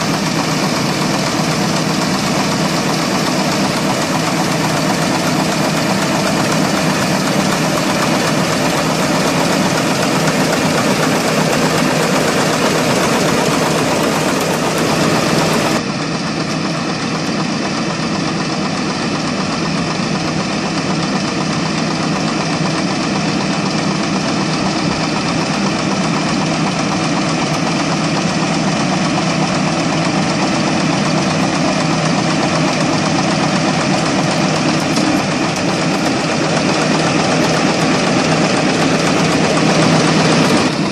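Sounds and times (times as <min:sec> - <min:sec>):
farm machine engine running: 0:00.0 - 0:40.9.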